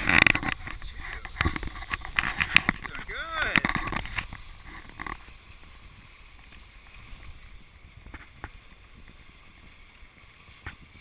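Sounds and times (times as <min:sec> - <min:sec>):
skis sliding over snow: 0:00.0 - 0:11.0.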